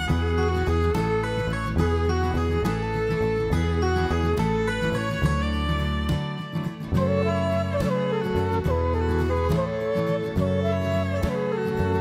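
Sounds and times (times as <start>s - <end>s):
low bass: 0.0s - 12.0s
plucked notes: 0.0s - 12.0s.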